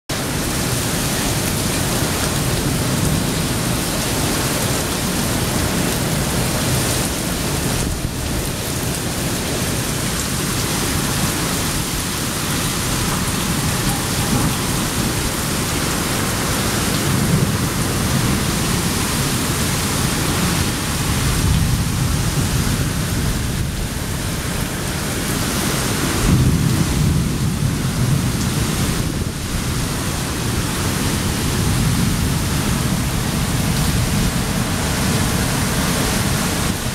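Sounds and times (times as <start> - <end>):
strong wind through trees: 0.1 - 36.9.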